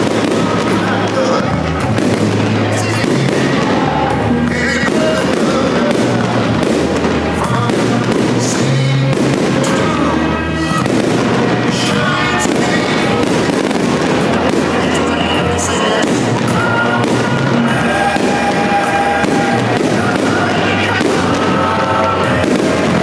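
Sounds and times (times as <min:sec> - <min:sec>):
fireworks bursting: 0:00.0 - 0:23.0
music playing: 0:00.0 - 0:23.0.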